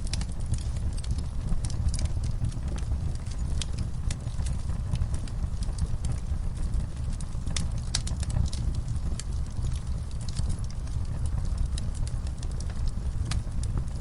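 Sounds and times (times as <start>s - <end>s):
wood fire crackling in fireplace: 0.0s - 14.0s.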